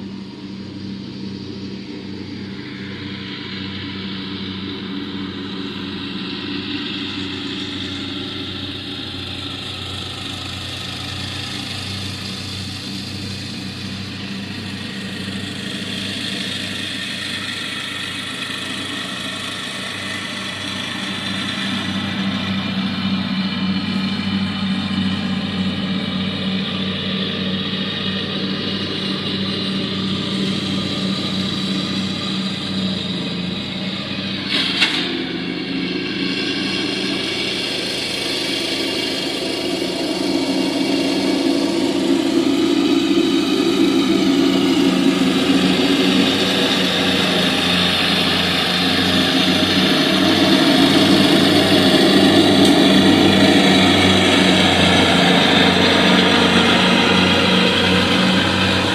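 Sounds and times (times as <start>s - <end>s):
lawn mower engine running: 0.0s - 58.9s.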